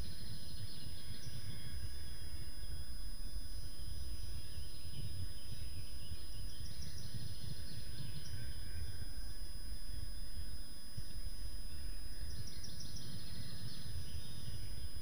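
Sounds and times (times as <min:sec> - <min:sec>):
faint birdsong chirping: 0:00.0 - 0:15.0.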